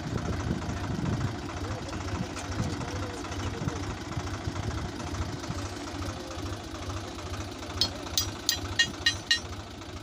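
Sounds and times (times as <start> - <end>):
tractor diesel engine idling: 0.0 - 10.0
tow chain and hitch rattling: 0.2 - 10.0.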